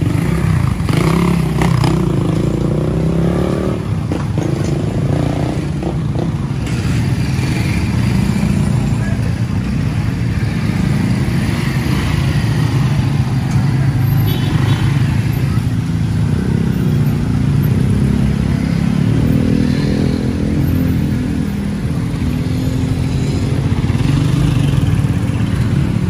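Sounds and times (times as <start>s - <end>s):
motorcycle and car engines rumbling: 0.0s - 26.0s.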